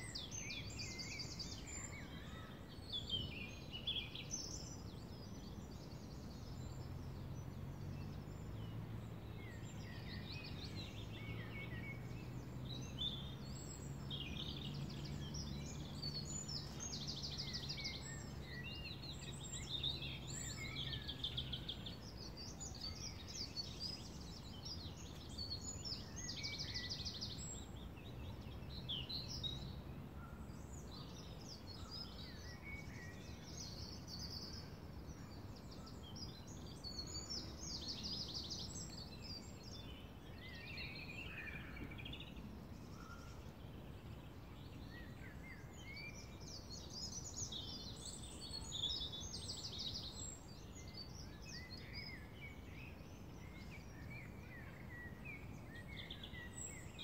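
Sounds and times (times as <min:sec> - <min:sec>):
low background noise: 0:00.0 - 0:57.0
songbirds singing: 0:00.0 - 0:57.0.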